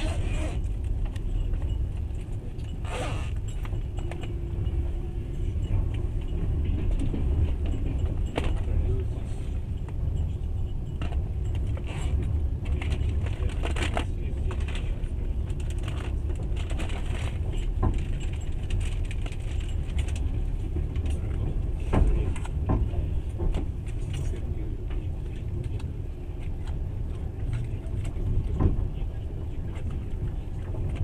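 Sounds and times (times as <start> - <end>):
train rumbling inside carriage: 0.0 - 31.0
rattles and clicks: 5.6 - 31.0.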